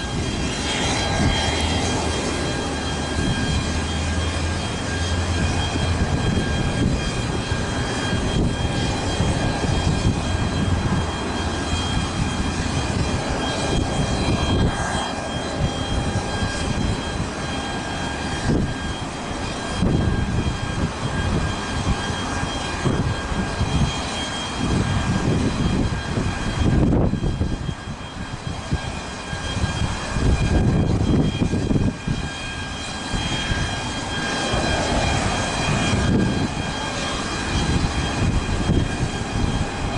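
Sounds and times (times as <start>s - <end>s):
airplane engines running: 0.0s - 39.9s.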